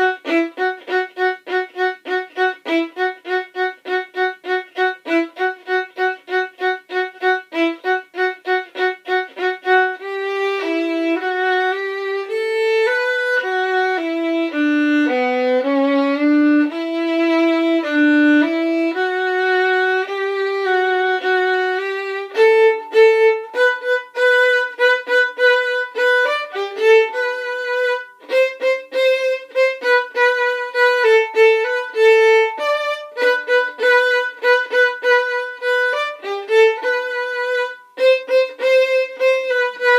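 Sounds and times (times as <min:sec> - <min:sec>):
solo violin bowed: 0:00.0 - 0:39.9.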